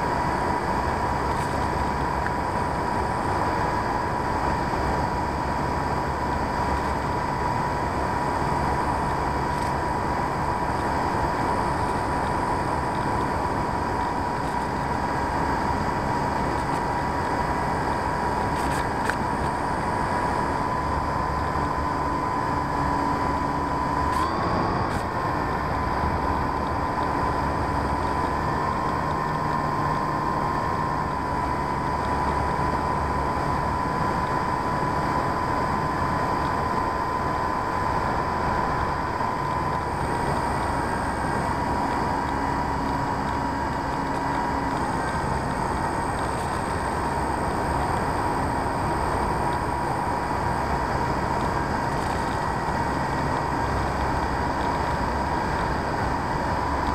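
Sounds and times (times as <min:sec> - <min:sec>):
electric motor and propeller whine: 0:00.0 - 0:56.9.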